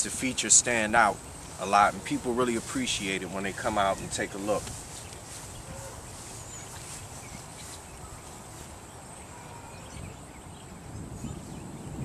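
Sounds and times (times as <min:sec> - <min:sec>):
faint high hiss: 0:00.0 - 0:10.0.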